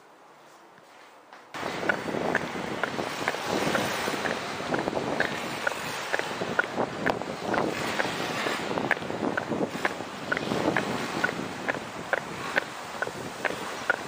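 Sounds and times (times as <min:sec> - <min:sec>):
wind buffeting microphone: 0:01.6 - 0:14.0.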